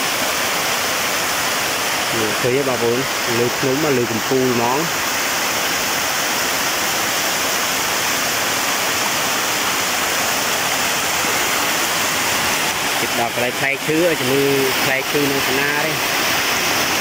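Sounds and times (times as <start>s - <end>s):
waterfall pouring into pool: 0.0s - 17.0s.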